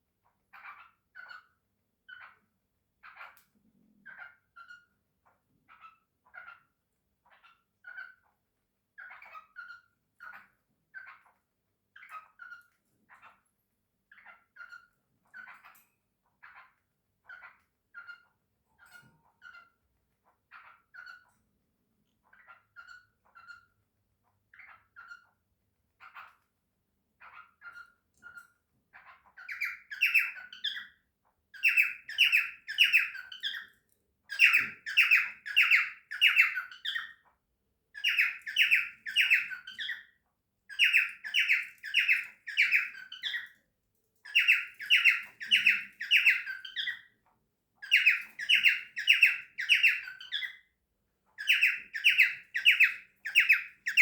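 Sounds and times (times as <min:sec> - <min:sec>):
cockatiel chirping and squawking: 0:00.2 - 0:54.0.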